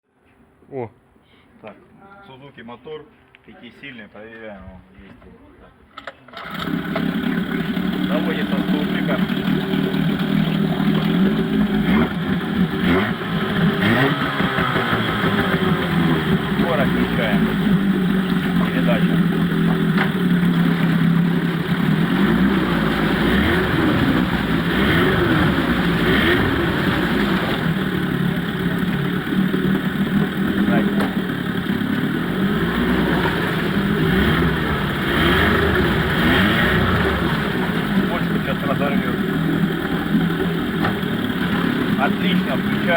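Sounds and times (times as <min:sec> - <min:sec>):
outboard motor running: 0:06.4 - 0:42.9.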